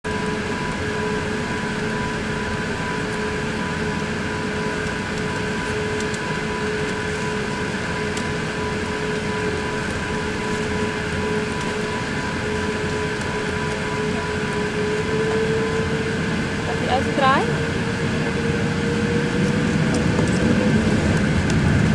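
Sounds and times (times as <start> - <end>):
airliner jet engines humming: 0.1 - 21.9
steady whining tones: 0.1 - 21.9.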